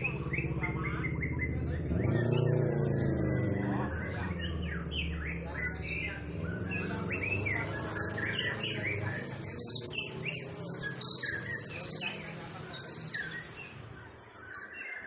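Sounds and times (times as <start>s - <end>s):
songbird singing whistles and trills: 0.0s - 15.0s.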